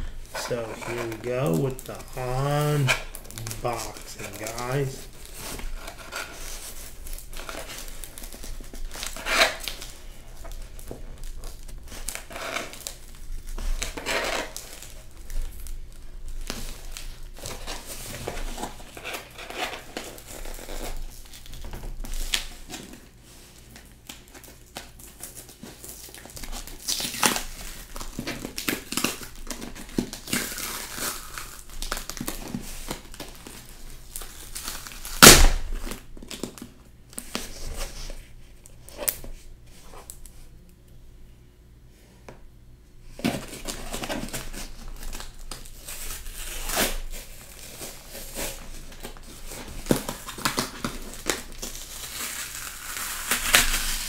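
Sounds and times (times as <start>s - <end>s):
packaging crinkling and tearing: 0.0s - 38.2s, 43.1s - 54.0s.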